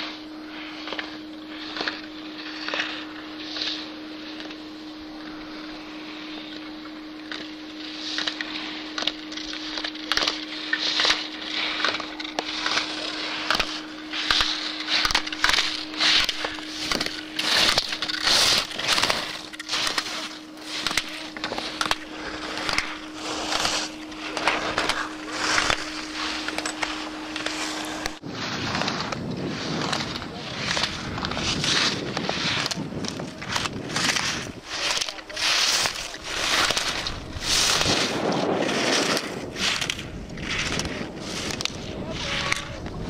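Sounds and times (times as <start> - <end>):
ski edges scraping on snow: 0.0 - 43.0
steady low hum: 0.0 - 43.0.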